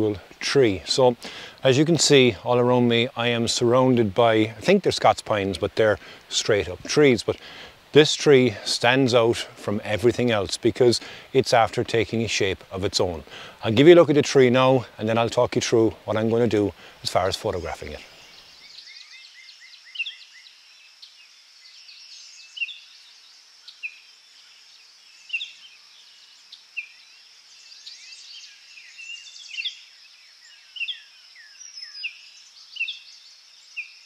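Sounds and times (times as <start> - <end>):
faint high hiss: 0.0 - 34.0
songbirds chirping and trilling: 0.0 - 34.0.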